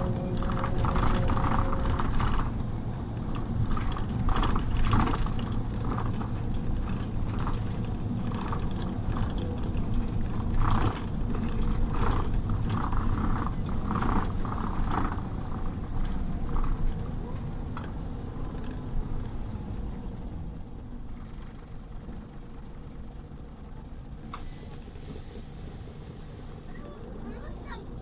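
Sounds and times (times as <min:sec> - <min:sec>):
bus engine drone: 0:00.0 - 0:28.0
rattling and clicking of bus body: 0:00.0 - 0:28.0.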